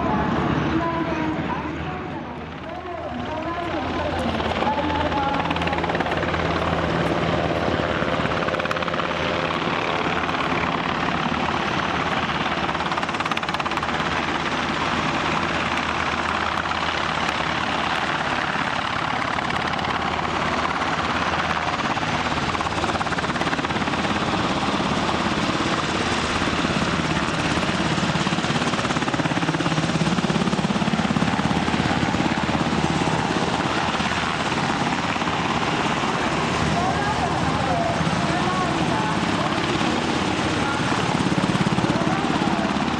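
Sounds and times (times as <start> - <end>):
helicopter rotor and engines: 0.0 - 42.9.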